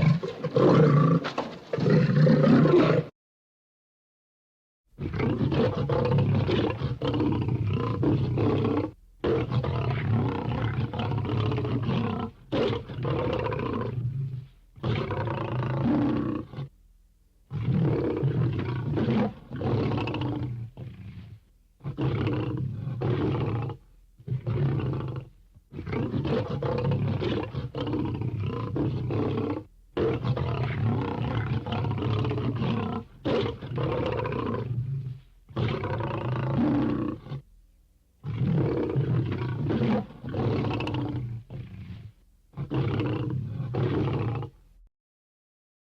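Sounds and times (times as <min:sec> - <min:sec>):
lion roaring and growling: 0:00.0 - 0:03.1, 0:05.0 - 0:16.7, 0:17.5 - 0:37.4, 0:38.2 - 0:44.6.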